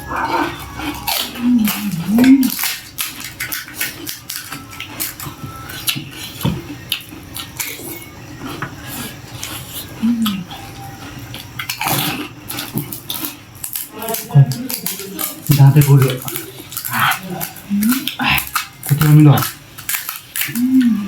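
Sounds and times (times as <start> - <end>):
crunching and chewing: 0.0 - 21.0.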